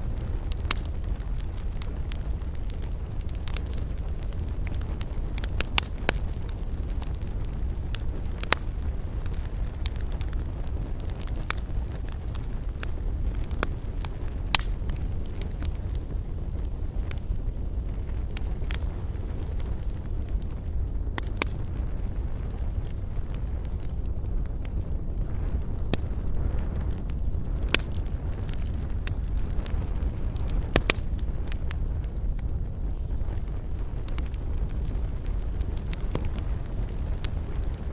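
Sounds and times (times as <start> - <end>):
low rumble of burning: 0.0 - 37.9
wood fire crackling and popping: 0.0 - 37.9.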